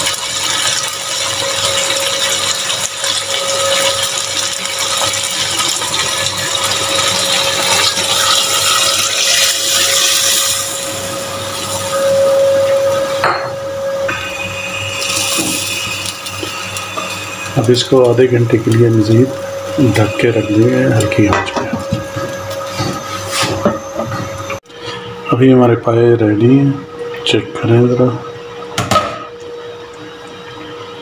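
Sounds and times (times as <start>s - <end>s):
steady hum: 6.0s - 31.0s.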